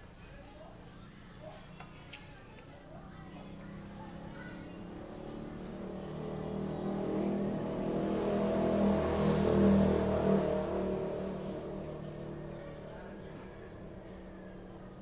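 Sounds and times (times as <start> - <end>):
vehicle engine passing: 2.9 - 15.0.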